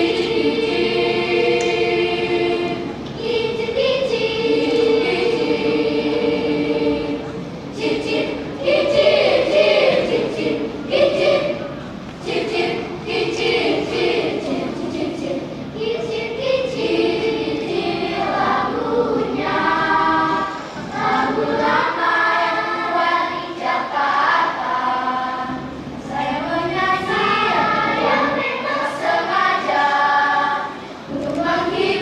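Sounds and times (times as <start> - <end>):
children's choir singing: 0.0 - 32.0.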